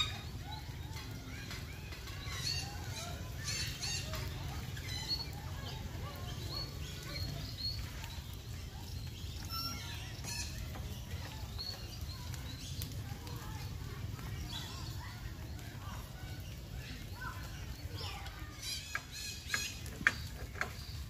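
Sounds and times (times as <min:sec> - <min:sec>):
bird calls and chirps: 0:00.0 - 0:21.0.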